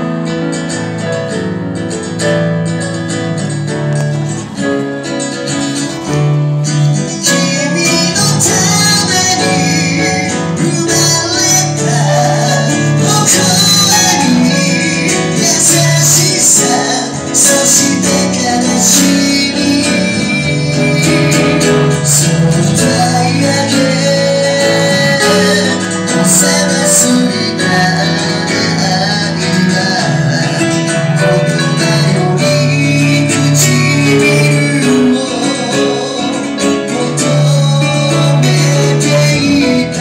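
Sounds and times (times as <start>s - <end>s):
electric keyboard: 0.0s - 40.0s
strummed acoustic guitar: 0.0s - 40.0s
person singing into microphone: 5.8s - 40.0s.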